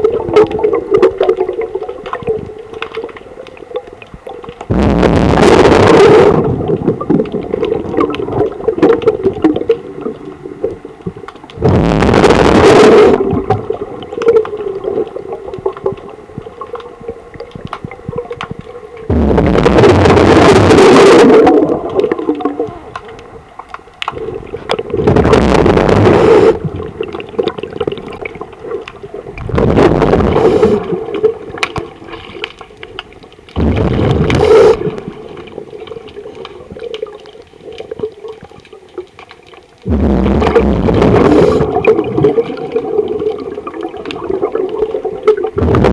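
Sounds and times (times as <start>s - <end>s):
underwater exhaled bubbles rushing: 0.0s - 45.9s.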